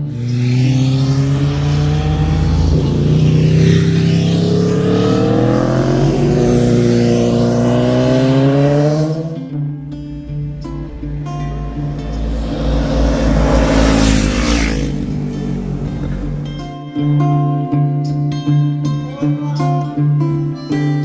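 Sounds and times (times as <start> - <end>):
motorcycles passing by: 0.0 - 18.0.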